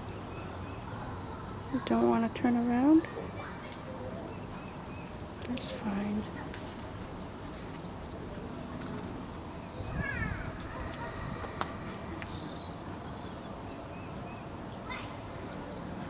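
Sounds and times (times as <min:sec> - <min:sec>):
small bird chirping: 0:00.0 - 0:06.6, 0:07.2 - 0:16.0.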